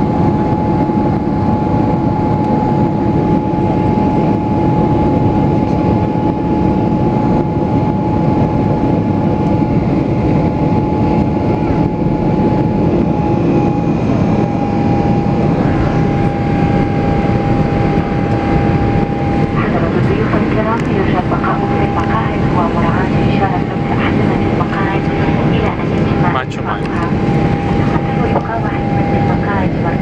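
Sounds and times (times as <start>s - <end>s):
jet engines at high power: 0.0s - 30.0s.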